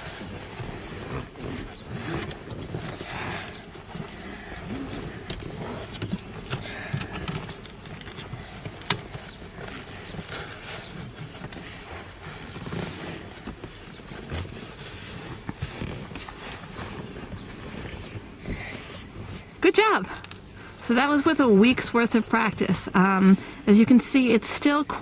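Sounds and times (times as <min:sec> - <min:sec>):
seat belt webbing rustling: 0:00.0 - 0:25.0.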